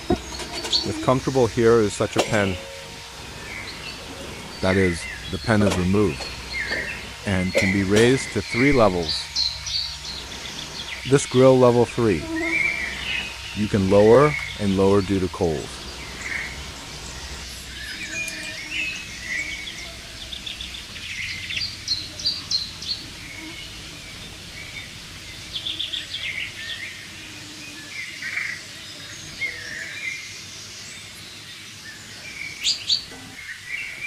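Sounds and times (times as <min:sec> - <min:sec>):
forest birds chirping and trilling: 0:00.0 - 0:34.0.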